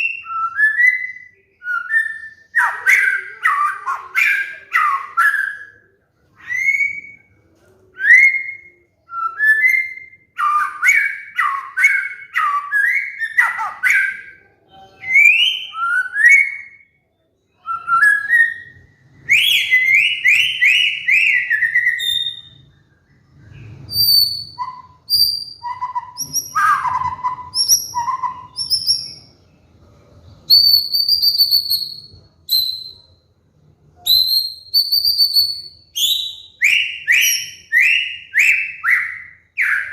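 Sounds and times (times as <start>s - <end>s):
bird singing whistled phrases: 0.0s - 7.4s, 8.0s - 29.4s, 30.4s - 33.2s, 34.0s - 39.9s.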